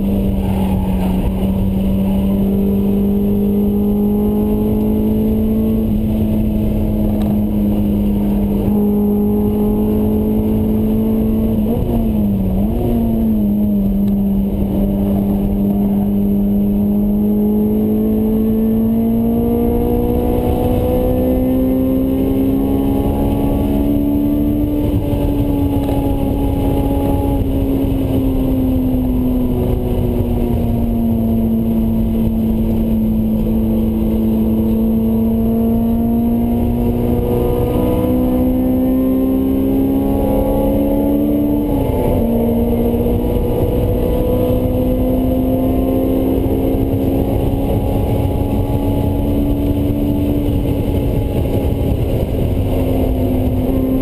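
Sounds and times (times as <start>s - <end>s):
car engine from inside cabin: 0.0s - 54.0s
road and wind noise: 0.0s - 54.0s.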